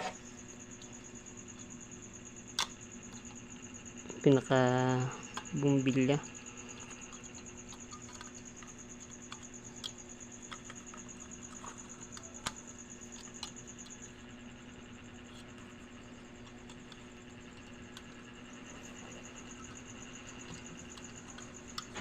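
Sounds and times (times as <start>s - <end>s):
high insect trill: 0.0s - 22.0s
steady low hum: 0.0s - 22.0s.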